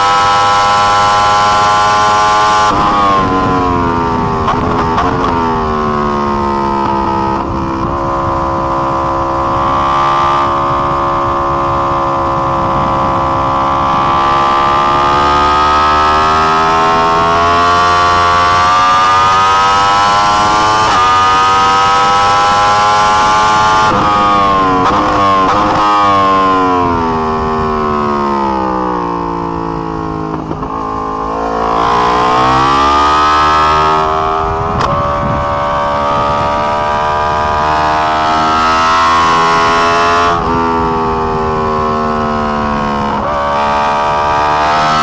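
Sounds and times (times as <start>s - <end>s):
motorcycle engine running hard: 0.0s - 45.0s.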